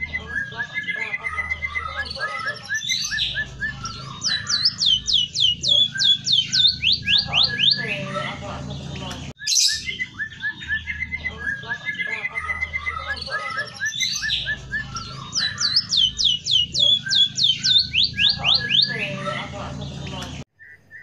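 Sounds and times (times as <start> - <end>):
songbird chirping and whistling: 0.0 - 21.0.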